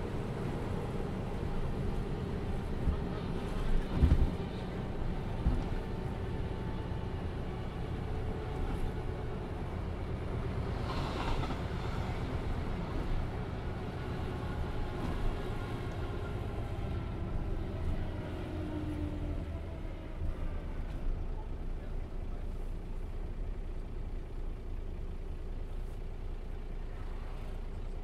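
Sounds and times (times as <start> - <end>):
bus diesel engine running: 0.0 - 28.0
road rumble: 0.0 - 28.0.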